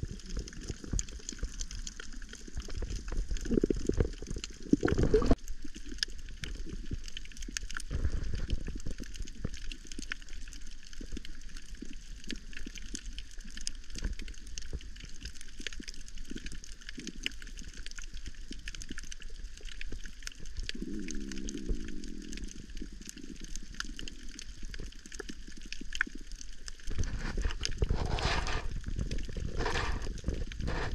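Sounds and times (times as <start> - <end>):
dense crackle of clicks: 0.0 - 30.9
underwater water rush: 0.0 - 30.9.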